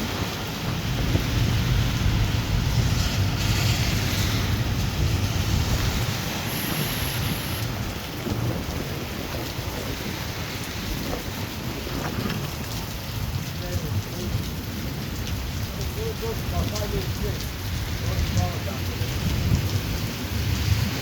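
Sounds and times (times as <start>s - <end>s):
low rumble of thunder: 0.0s - 7.1s, 7.7s - 21.0s
steady rain falling: 0.0s - 21.0s.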